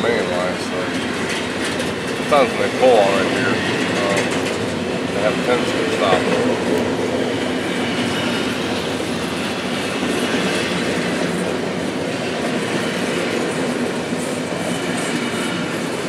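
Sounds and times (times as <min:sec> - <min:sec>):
train cars clickety-clack: 0:00.0 - 0:16.0
train wheels on rails: 0:00.0 - 0:16.0.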